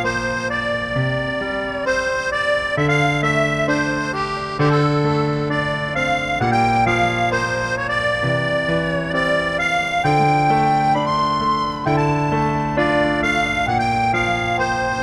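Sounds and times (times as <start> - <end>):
slow melody over chords: 0.0 - 15.0.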